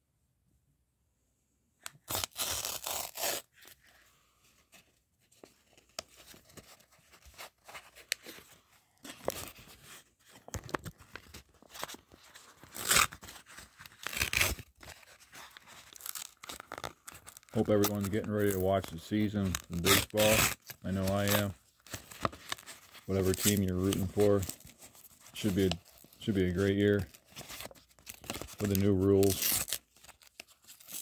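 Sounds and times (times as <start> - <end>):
envelope tearing: 1.9 - 4.0, 5.7 - 31.0
paper rustling: 3.5 - 31.0.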